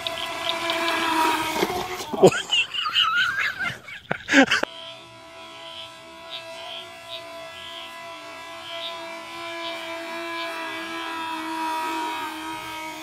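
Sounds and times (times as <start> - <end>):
boat electric motor whining: 0.0 - 13.0
wavering pitched sounds: 0.0 - 13.0.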